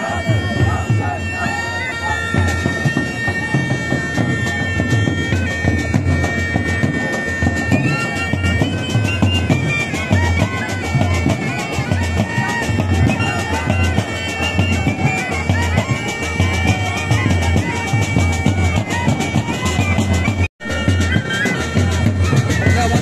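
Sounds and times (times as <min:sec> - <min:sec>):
reed pipe melody: 0:00.0 - 0:23.0
fast drumming: 0:02.3 - 0:23.0.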